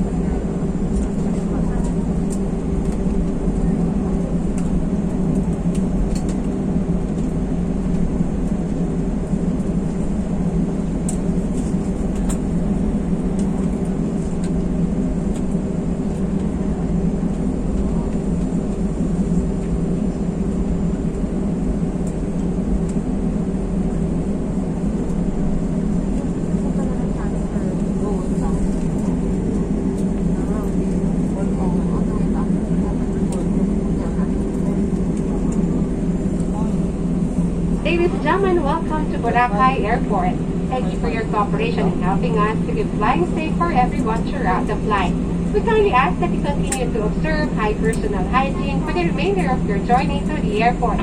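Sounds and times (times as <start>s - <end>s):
airliner engines droning in cabin: 0.0s - 51.0s.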